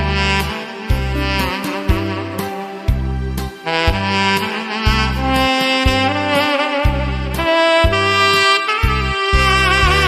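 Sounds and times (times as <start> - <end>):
backing track with pulsing bass: 0.0 - 10.0
tenor saxophone melody: 0.0 - 10.0.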